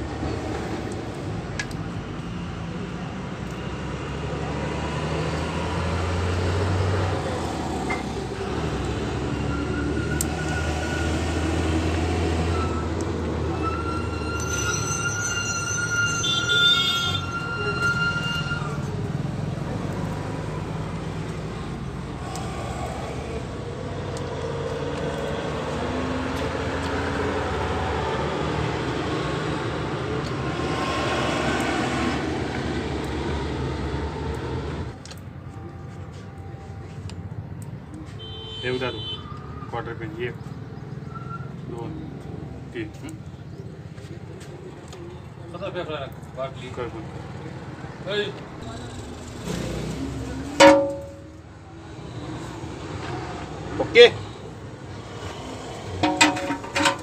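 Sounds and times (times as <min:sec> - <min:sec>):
low rumble of vehicles: 0:00.0 - 0:57.0.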